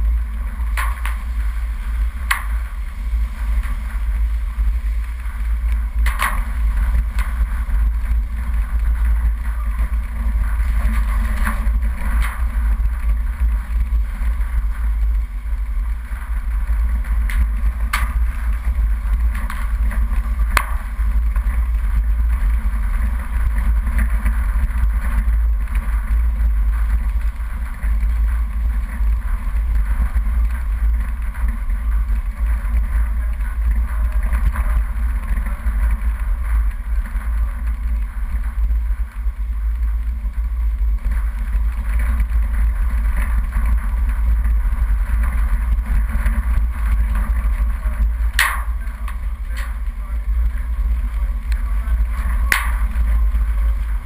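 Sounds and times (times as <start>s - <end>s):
off-road vehicle engine rumble: 0.0s - 54.0s.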